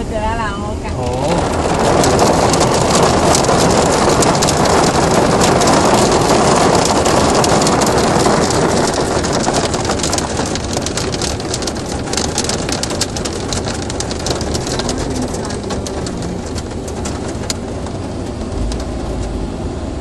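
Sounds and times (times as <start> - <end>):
hailstones striking hard surfaces: 0.9 - 19.0.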